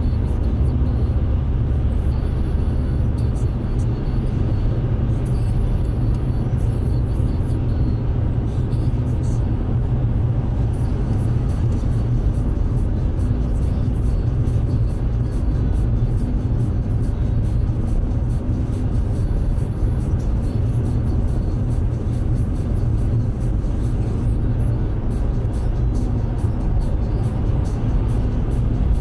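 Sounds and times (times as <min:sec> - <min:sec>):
car tyre and engine rumble: 0:00.0 - 0:29.0.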